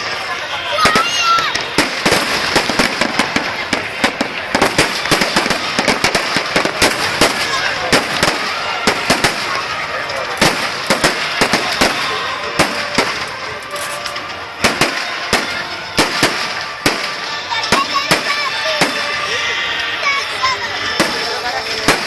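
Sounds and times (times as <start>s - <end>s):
fireworks sharp bangs: 0.0s - 19.4s, 20.7s - 22.0s.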